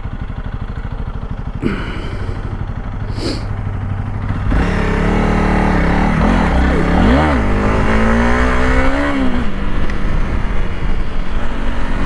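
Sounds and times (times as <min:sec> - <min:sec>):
motorcycle engine chugging and revving: 0:00.0 - 0:12.0.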